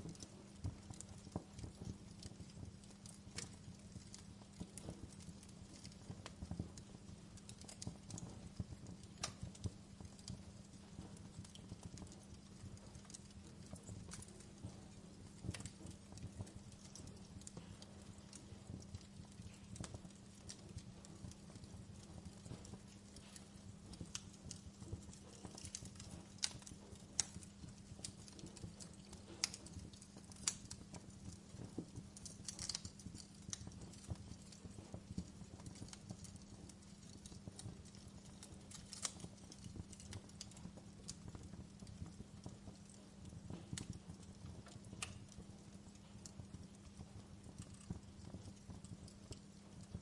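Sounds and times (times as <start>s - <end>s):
low steady hum: 0.0s - 50.0s
wood fire crackling: 0.0s - 50.0s.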